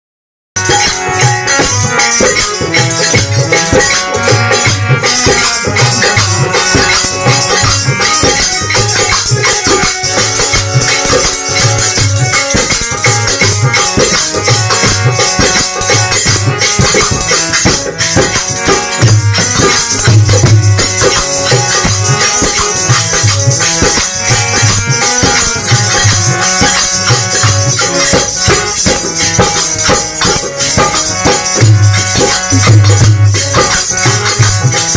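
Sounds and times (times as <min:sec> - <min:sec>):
drum beats: 0:00.6 - 0:34.9
jingling percussion: 0:00.6 - 0:34.9.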